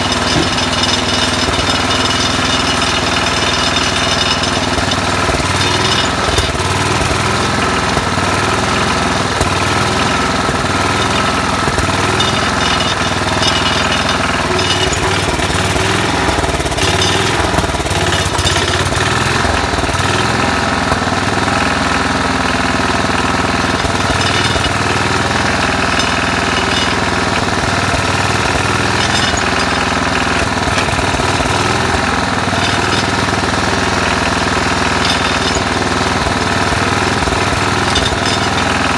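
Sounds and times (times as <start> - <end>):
single-cylinder engine running: 0.0 - 38.9.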